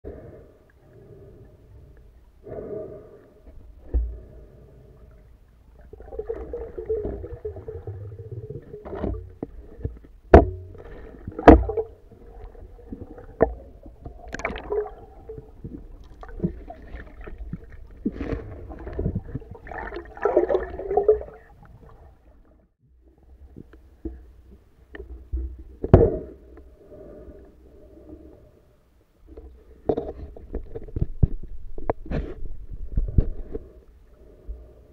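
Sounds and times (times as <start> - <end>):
underwater sloshing: 0.1 - 28.5.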